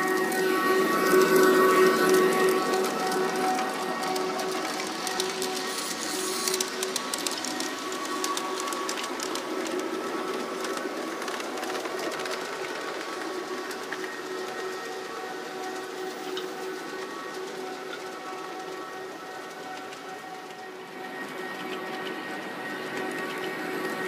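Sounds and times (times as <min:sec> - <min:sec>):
wheels clicking over rail joints: 0:00.0 - 0:24.0.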